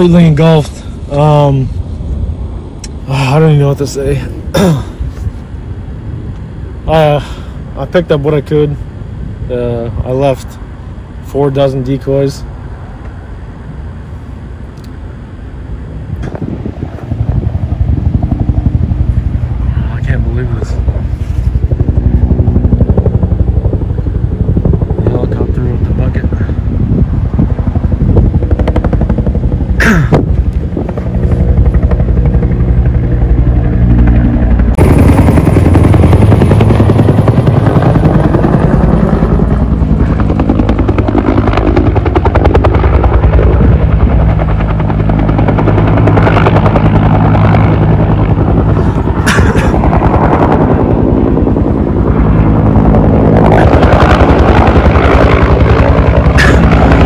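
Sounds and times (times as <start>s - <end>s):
helicopter rotor chop: 0.0s - 57.0s.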